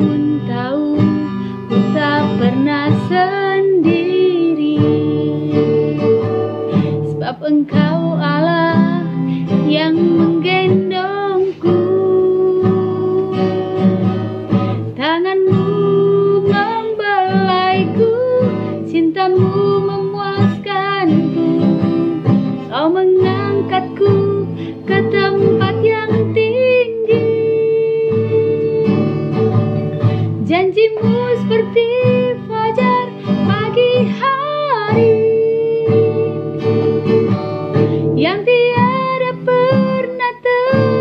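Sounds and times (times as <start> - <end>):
acoustic guitar strumming: 0.0 - 41.0
woman singing: 0.0 - 41.0.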